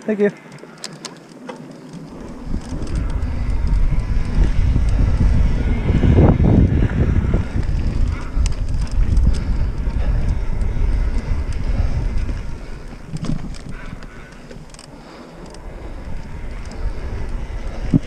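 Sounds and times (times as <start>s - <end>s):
bike clicks and rattles: 0.0s - 18.0s
tyres rumbling on dirt trail: 0.2s - 18.0s
wind buffeting microphone: 1.8s - 18.0s.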